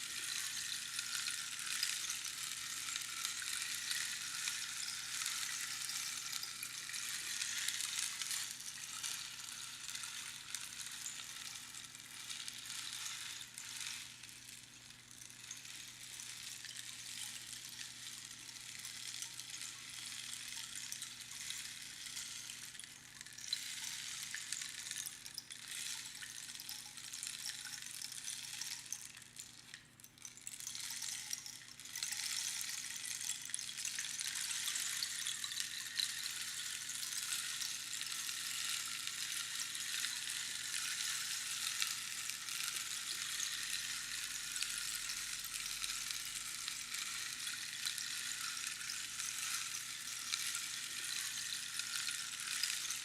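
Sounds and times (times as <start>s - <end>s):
rainstick pebbles trickling: 0.0s - 53.0s.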